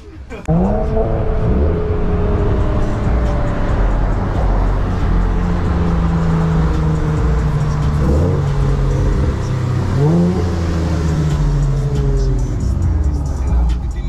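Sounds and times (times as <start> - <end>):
car engine running: 0.4 - 14.0.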